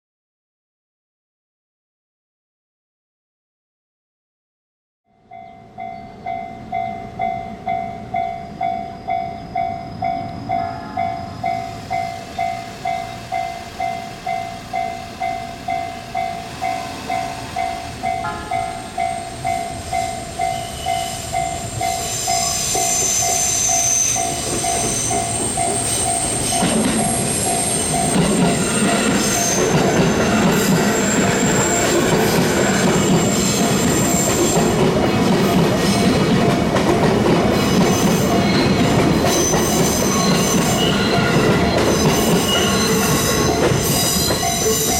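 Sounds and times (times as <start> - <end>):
level-crossing alarm ringing: 5.1 - 34.9, 37.7 - 44.9
train rumble: 5.3 - 44.9
train wheel squeal: 5.4 - 36.4, 37.5 - 44.9.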